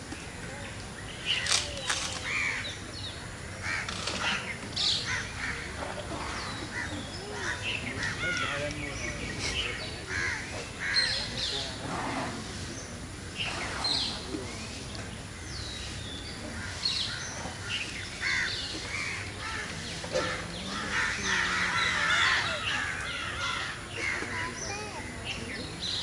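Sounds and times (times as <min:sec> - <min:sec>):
birds calling: 0:00.2 - 0:26.0.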